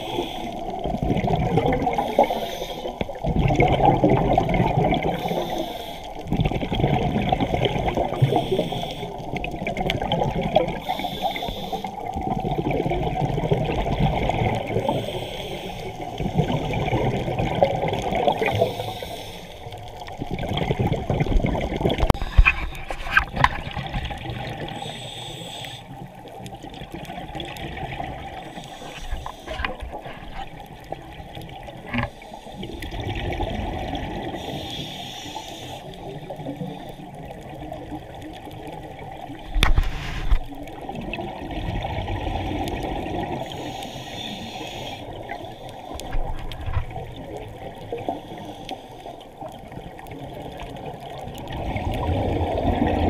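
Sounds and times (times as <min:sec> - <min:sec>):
regulator bubbles gurgling underwater: 0:00.0 - 0:53.0.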